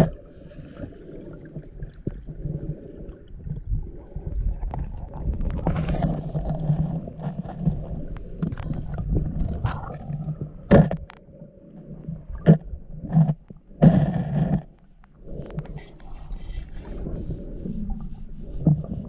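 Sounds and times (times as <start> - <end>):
muffled underwater rumble: 0.0 - 19.0.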